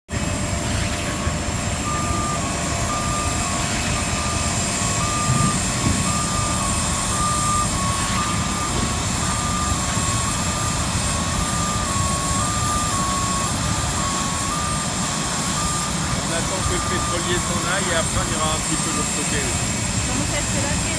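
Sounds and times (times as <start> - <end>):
mechanical rumble: 0.1 - 20.9
faint high whine: 0.2 - 20.9
electronic warning beeper: 0.3 - 20.9.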